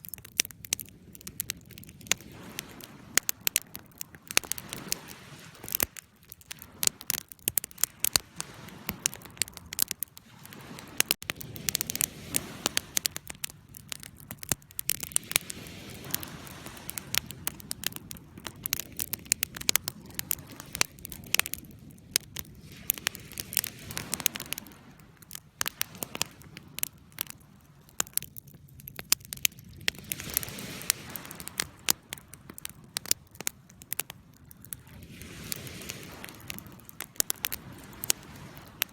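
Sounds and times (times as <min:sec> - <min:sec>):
wood crackling and popping: 0:00.0 - 0:38.9
flame rumble: 0:00.1 - 0:38.9.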